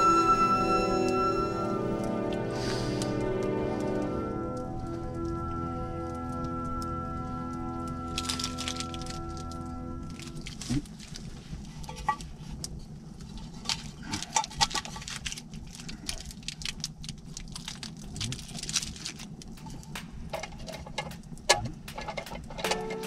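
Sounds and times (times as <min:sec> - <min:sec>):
low steady rumble: 0:00.0 - 0:23.0
sharp crackles and clicks: 0:00.9 - 0:23.0.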